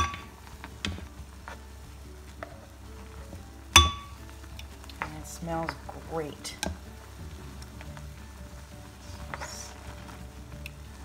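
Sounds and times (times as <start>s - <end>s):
spatula stirring wet potatoes: 0.0s - 11.0s.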